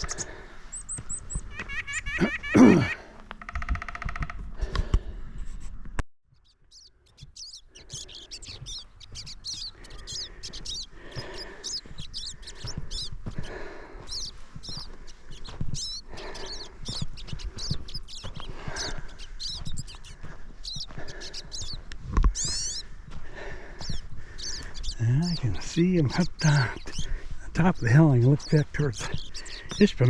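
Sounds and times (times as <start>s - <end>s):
small birds chirping: 0.0s - 3.6s, 6.3s - 30.0s.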